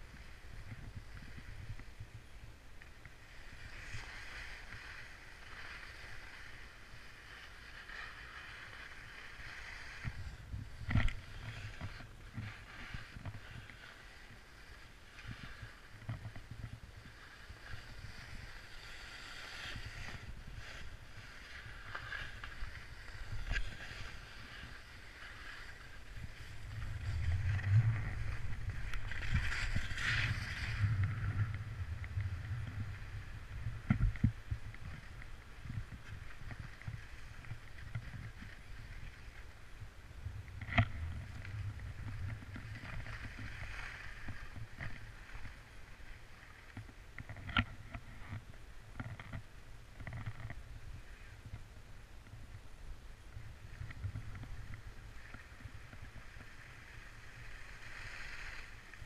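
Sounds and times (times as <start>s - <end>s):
skis scraping over snow: 0.0s - 48.6s, 53.3s - 59.0s
wind rumbling on microphone: 0.0s - 59.0s.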